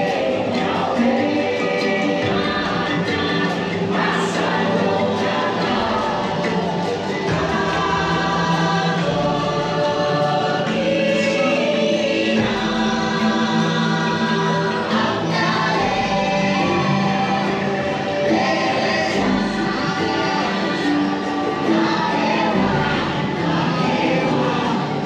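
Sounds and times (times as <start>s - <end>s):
slow choral singing: 0.0s - 25.0s
sustained musical chords: 0.0s - 25.0s.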